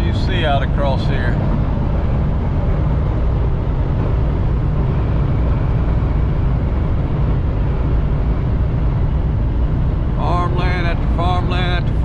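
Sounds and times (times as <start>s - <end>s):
truck road and engine noise: 0.0s - 12.0s.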